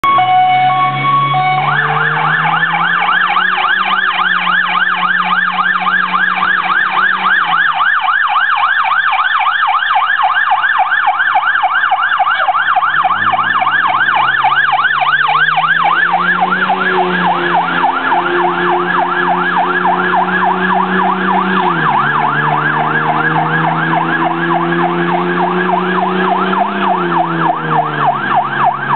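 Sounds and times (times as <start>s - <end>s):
fire engine siren yelping: 0.0s - 28.9s
low winding siren tone: 0.0s - 28.9s.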